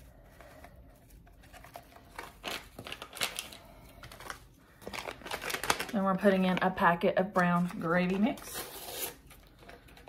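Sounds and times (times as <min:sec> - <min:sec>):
packet crinkling and rustling: 0:00.1 - 0:10.0.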